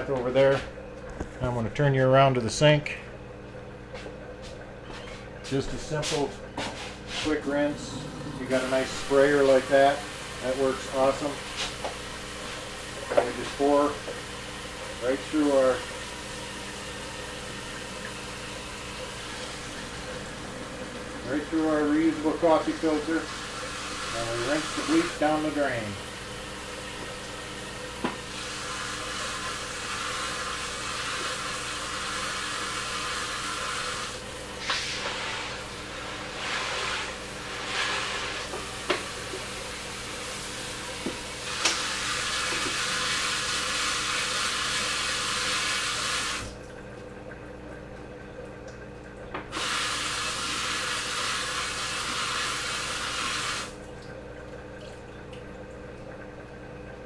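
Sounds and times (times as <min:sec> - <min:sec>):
sink sprayer running water: 0:04.0 - 0:46.8, 0:48.7 - 0:54.2.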